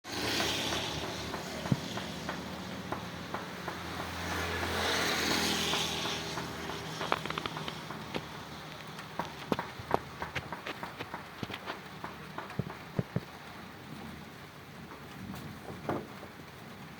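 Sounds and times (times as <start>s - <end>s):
rain hissing: 0.1s - 16.9s.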